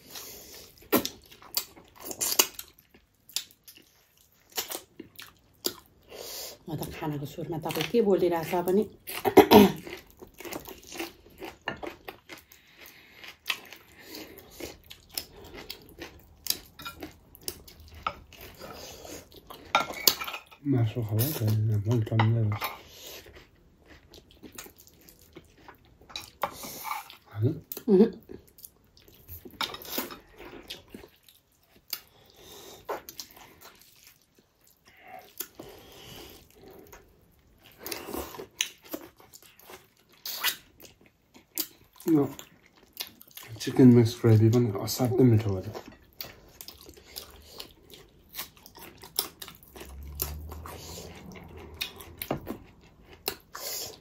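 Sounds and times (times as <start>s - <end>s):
chewing and lip smacks: 0.5s - 6.0s, 9.8s - 20.2s, 23.2s - 43.6s, 45.7s - 54.0s.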